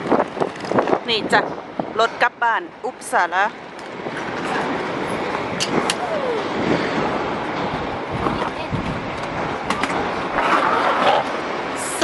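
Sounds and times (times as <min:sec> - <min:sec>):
street and vehicle noise: 0:00.0 - 0:12.0.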